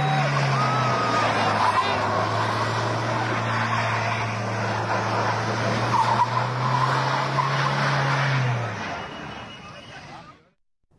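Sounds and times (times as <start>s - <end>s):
tyres skidding and squealing: 0.0s - 10.6s.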